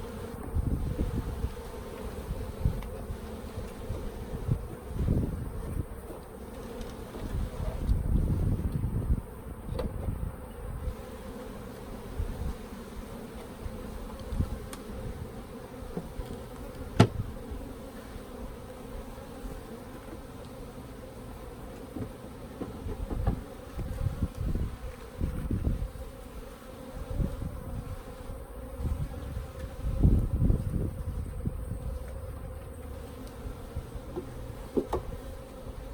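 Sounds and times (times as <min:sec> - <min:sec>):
honeybees buzzing: 0:00.0 - 0:35.9.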